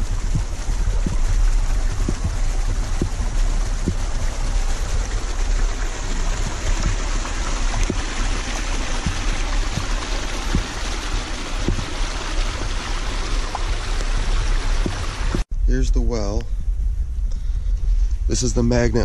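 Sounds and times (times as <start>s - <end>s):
stream rushing over rocks: 0.0s - 15.5s.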